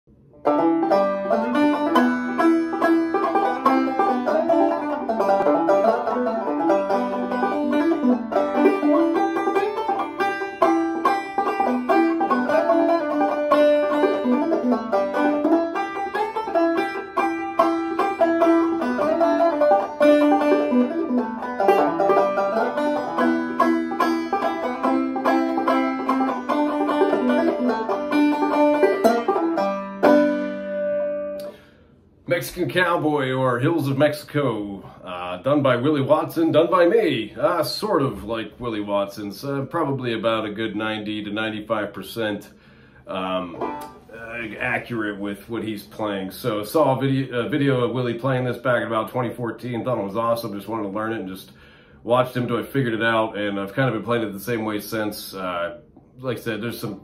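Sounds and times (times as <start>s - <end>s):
banjo played clawhammer style: 0.2s - 31.7s, 32.3s - 42.5s, 43.1s - 51.5s.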